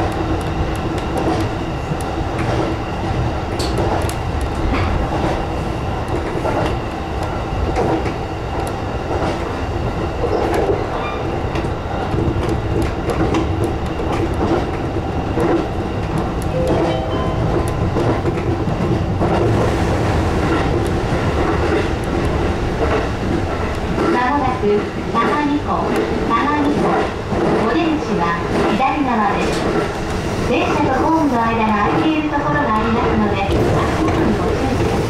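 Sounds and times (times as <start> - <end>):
train rumble and hum: 0.0 - 35.0.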